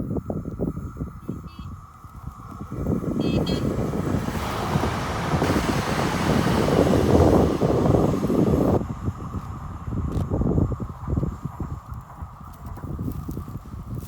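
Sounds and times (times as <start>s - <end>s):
train rumble and rail noise: 0.2s - 14.0s.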